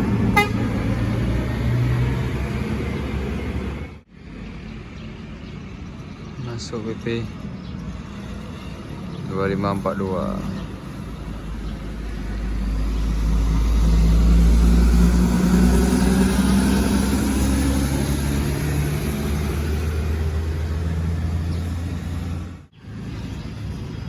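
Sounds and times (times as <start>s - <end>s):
bus diesel engine passing: 0.0s - 24.0s.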